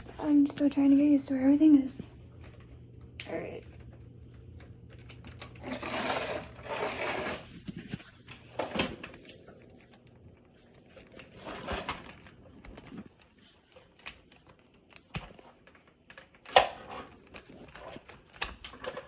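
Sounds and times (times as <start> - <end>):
low steady hum: 0.0 - 19.0
rustling and handling noises: 0.0 - 19.0.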